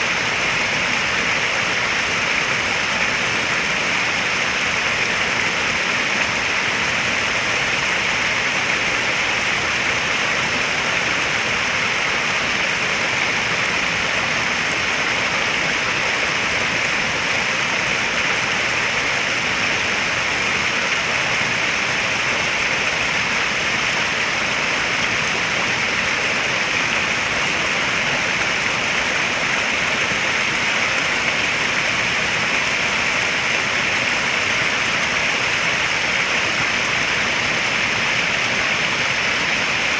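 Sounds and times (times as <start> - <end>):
running water in a pond: 0.0 - 39.9.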